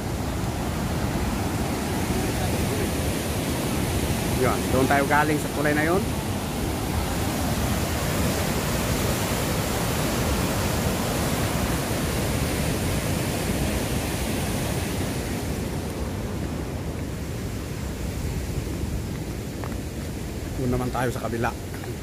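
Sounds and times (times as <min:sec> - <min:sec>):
rushing white water: 0:00.0 - 0:22.0.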